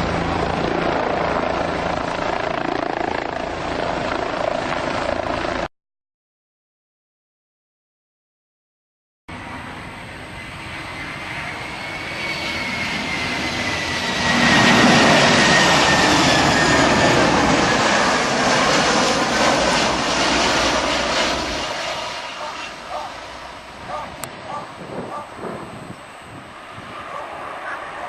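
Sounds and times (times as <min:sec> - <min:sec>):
aircraft engine passing close: 0:00.0 - 0:05.2, 0:09.3 - 0:28.0.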